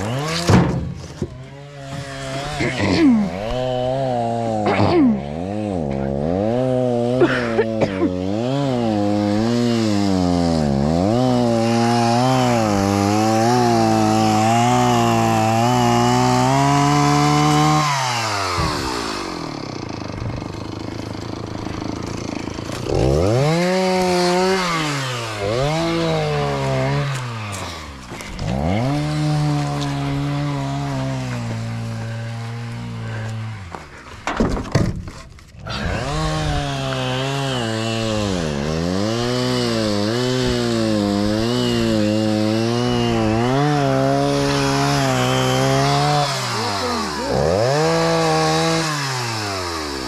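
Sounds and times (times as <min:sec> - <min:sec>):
chainsaw cutting log: 0:00.0 - 0:50.0.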